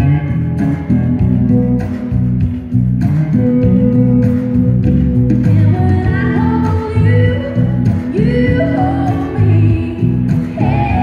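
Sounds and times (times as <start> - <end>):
guitar-led dance music: 0.0 - 11.0.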